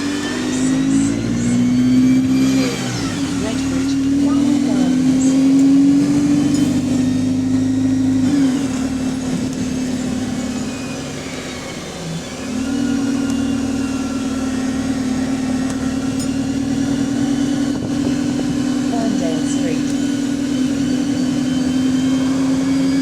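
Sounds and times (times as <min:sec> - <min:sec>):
bus engine pulling under load: 0:00.0 - 0:23.0.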